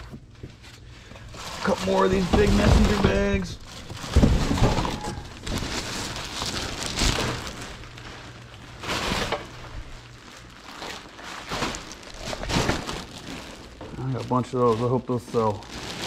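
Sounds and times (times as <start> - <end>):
packaging rustling and crinkling: 0.0 - 16.0.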